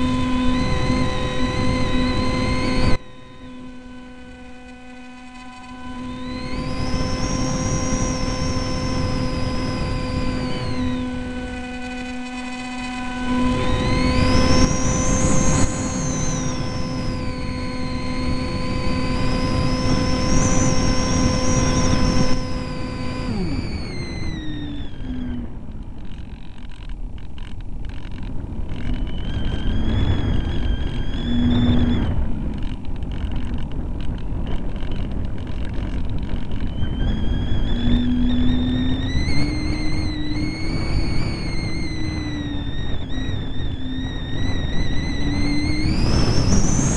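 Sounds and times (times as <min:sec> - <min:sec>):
electric motor and propeller whining: 0:00.0 - 0:46.9.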